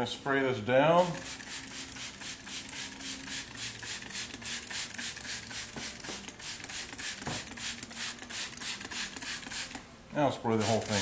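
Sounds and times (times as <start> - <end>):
spray bottle squirts hissing: 1.0 - 9.8, 10.6 - 11.0.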